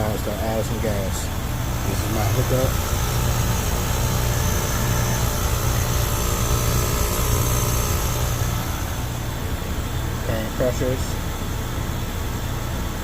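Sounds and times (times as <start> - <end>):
compressor humming: 0.0 - 13.0
condenser fan rushing: 0.0 - 13.0.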